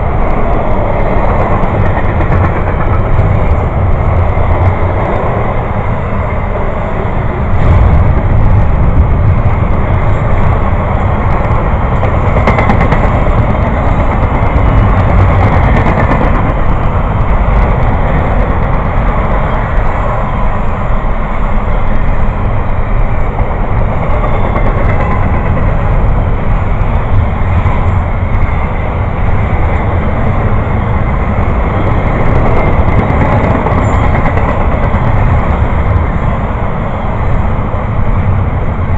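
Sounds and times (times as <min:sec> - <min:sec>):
train passing on rails: 0:00.0 - 0:38.9.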